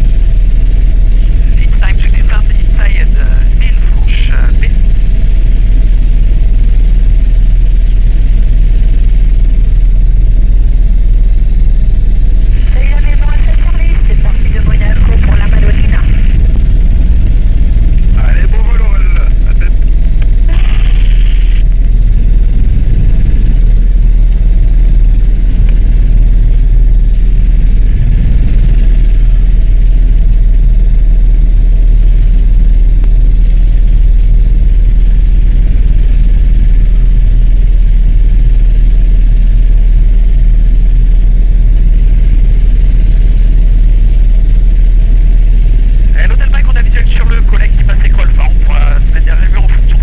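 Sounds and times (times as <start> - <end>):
faint steady whine: 0.0 - 50.0
helicopter rotor and engine drone: 0.0 - 50.0.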